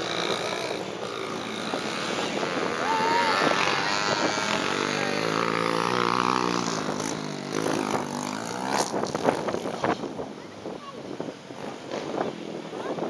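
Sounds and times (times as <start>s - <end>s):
motocross bike engines: 0.0s - 13.0s.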